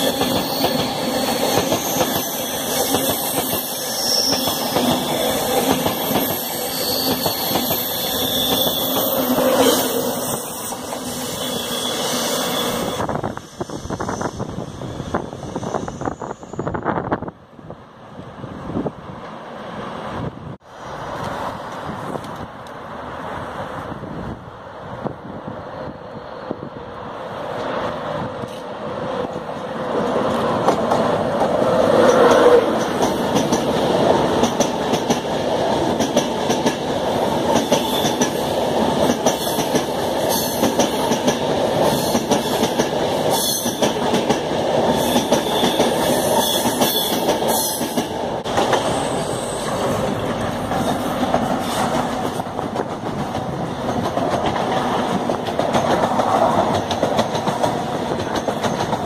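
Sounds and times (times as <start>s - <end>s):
passenger train passing: 0.0s - 59.0s.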